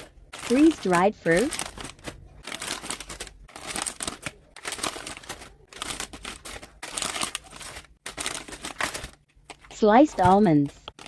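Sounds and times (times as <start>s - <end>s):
plastic packets crinkling: 0.0s - 11.0s.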